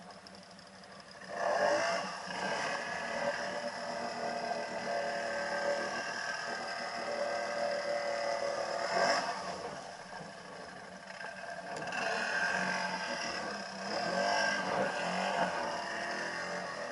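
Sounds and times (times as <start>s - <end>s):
quad engine revving high: 0.0s - 16.9s.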